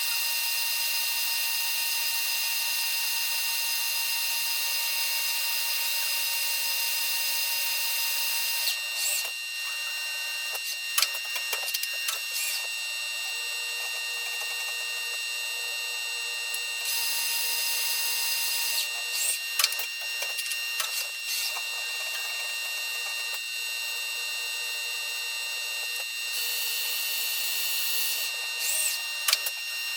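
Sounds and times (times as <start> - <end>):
power tool motor whining: 5.1 - 29.9.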